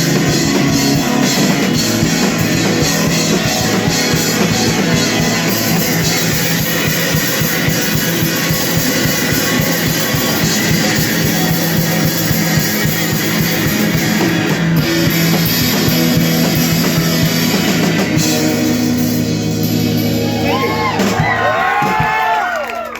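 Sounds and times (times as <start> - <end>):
bending high guitar tones: 0.0 - 21.6
live rock band playing: 0.0 - 22.6.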